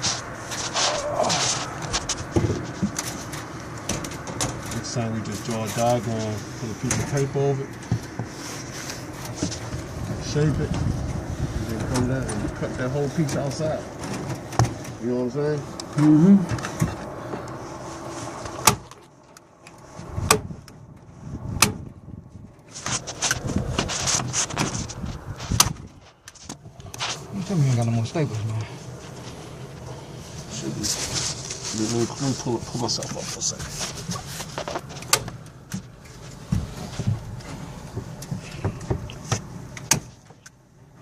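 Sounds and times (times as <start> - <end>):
rustling: 0.0 - 21.6, 22.2 - 40.6.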